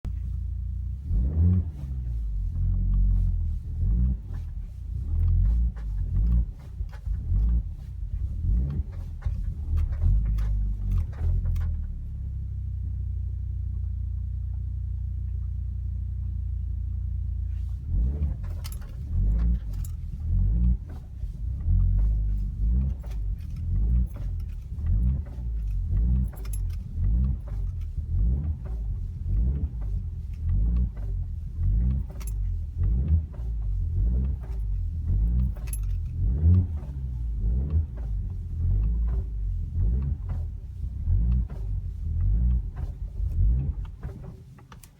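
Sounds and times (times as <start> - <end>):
car rumble: 0.0 - 44.9
suspension knocking and rattling: 0.1 - 12.3, 16.3 - 44.9.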